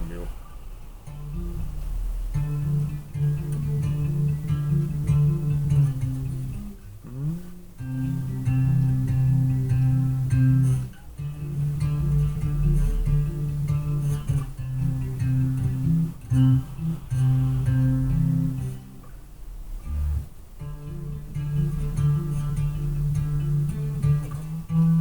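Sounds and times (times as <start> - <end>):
electric bass low notes: 0.0 - 0.4, 1.1 - 25.0.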